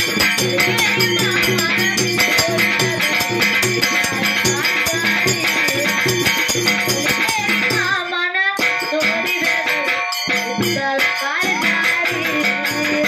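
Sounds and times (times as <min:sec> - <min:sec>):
hand drum beat: 0:00.0 - 0:13.0
rattle-like percussion: 0:00.0 - 0:13.0.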